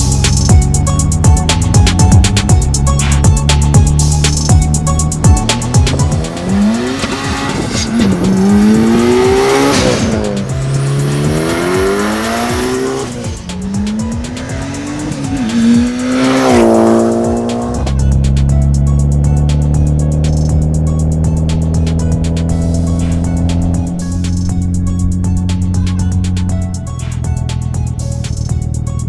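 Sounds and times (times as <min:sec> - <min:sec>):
background music: 0:00.0 - 0:29.0
car engine accelerating hard: 0:00.0 - 0:29.0.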